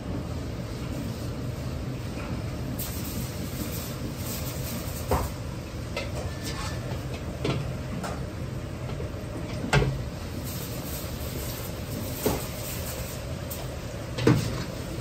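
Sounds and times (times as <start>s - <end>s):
oil bubbling and sizzling: 0.2s - 15.0s.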